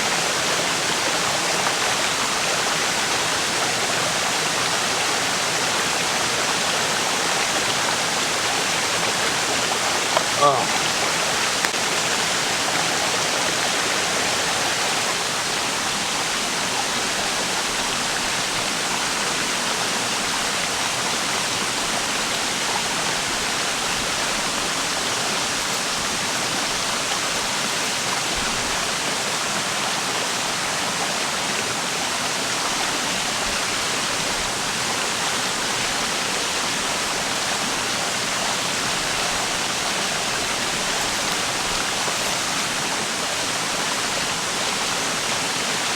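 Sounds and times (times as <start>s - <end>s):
water flowing over rocks: 0.0s - 45.9s.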